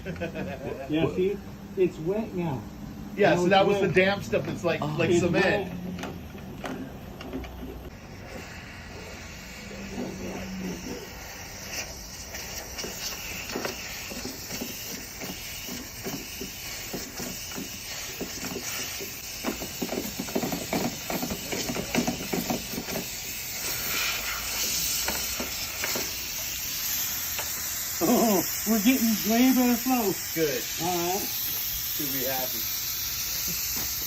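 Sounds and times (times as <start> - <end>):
air hissing through vent: 0.0 - 34.0.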